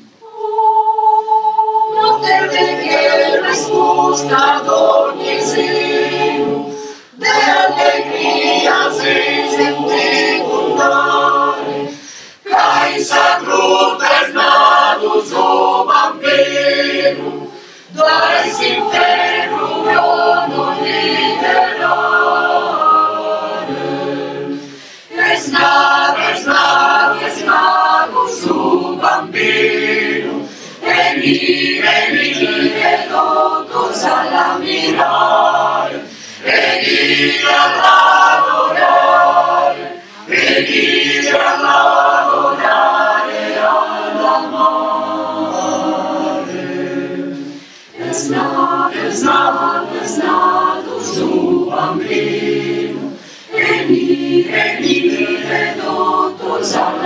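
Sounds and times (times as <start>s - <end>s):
mixed choir singing a carol: 0.0s - 57.0s.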